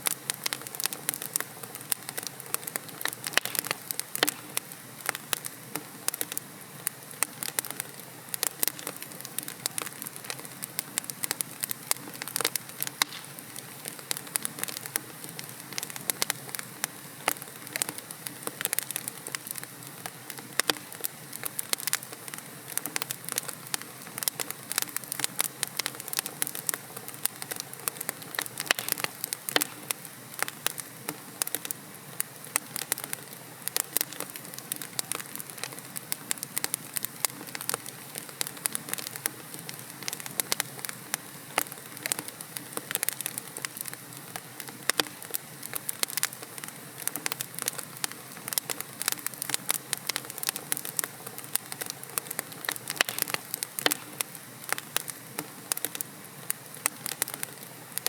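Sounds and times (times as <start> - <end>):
soft hiss of flames: 0.0 - 58.0
burning logs popping and snapping: 0.1 - 58.0.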